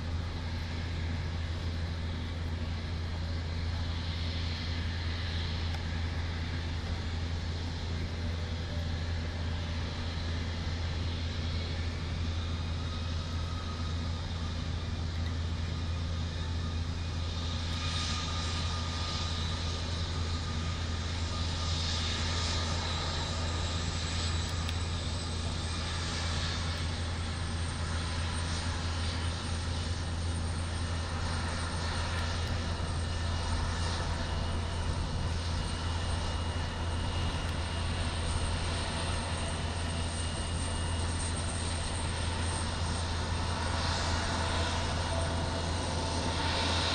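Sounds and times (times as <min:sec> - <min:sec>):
high thin engine whine: 0:00.0 - 0:46.9
jet engines low rumble: 0:00.0 - 0:46.9.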